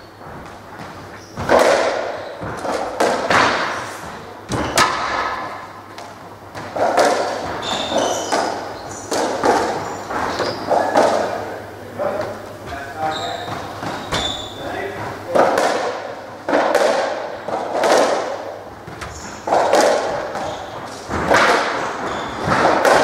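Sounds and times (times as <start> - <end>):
shoes squeaking on wooden floor: 0.0 - 11.4, 12.0 - 15.3, 18.8 - 23.0
ball struck and hitting walls: 0.2 - 11.4, 15.3 - 23.0.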